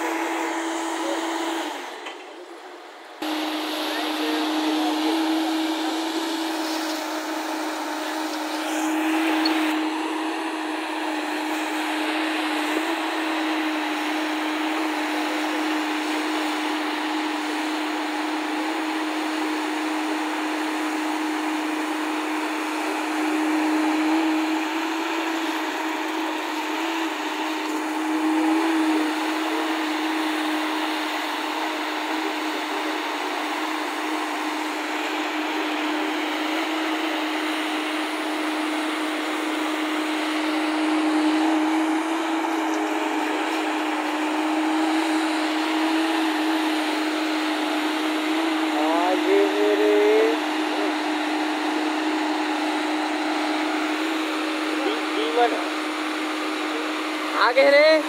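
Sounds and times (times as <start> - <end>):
excavator engine droning: 0.0 - 58.0.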